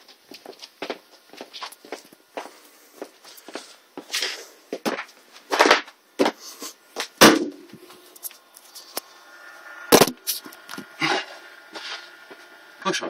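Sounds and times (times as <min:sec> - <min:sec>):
footsteps: 0:00.0 - 0:09.2, 0:09.9 - 0:12.6.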